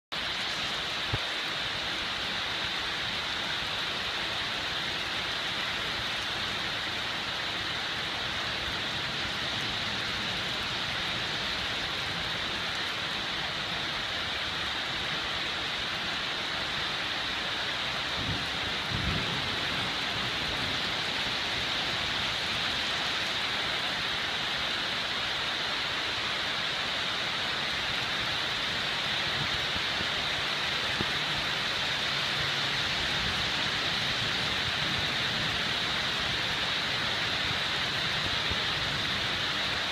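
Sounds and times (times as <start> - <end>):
heavy rain on leaves and paving: 0.1 - 39.9.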